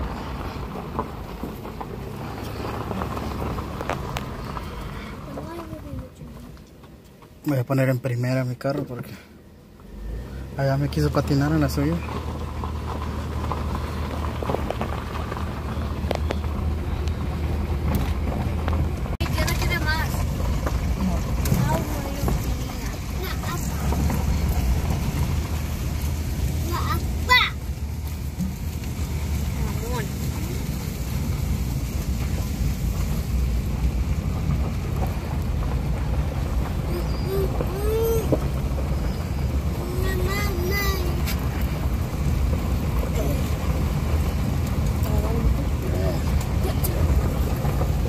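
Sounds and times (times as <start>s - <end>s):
small stones ticking: 0.0s - 5.4s, 11.8s - 48.0s
car engine running: 0.0s - 48.0s
tyres crunching over gravel: 0.0s - 48.0s.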